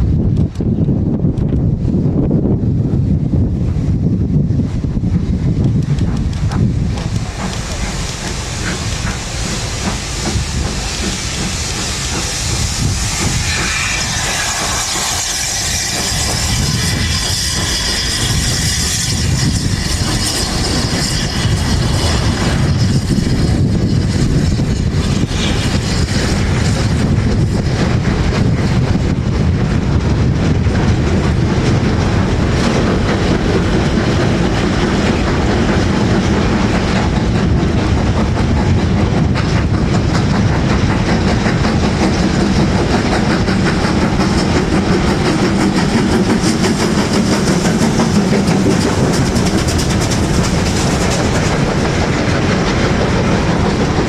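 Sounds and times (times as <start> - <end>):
train wheels clattering on track: 0.1 - 54.0.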